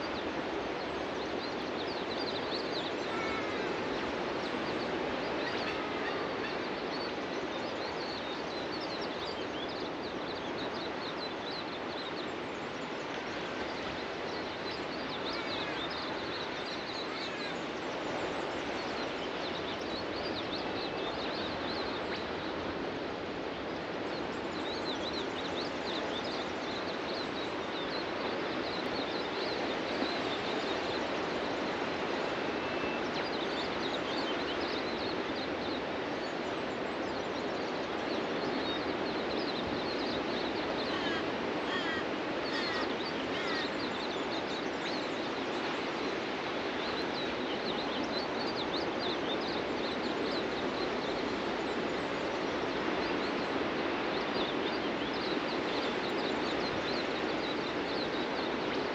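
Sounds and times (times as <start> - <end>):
ocean surf on a beach: 0.0 - 58.9.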